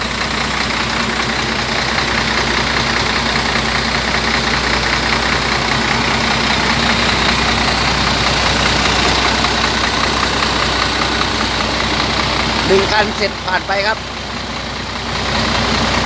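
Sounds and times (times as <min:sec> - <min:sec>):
diesel bus engine running: 0:00.0 - 0:16.0.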